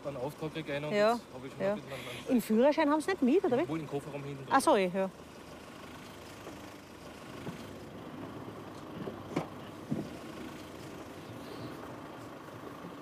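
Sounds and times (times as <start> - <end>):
car engine humming: 0.0 - 13.0
street traffic: 0.0 - 13.0.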